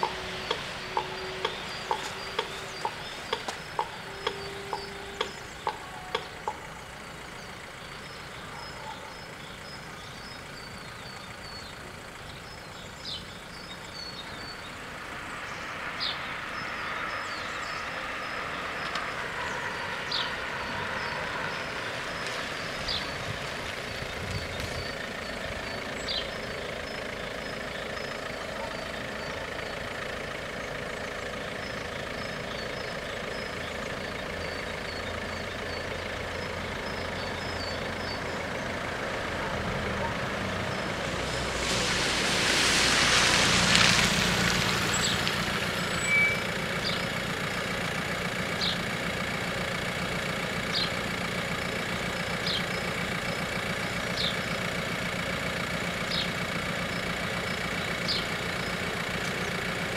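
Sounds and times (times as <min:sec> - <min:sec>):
rushing vehicle noise: 0:00.0 - 0:59.9.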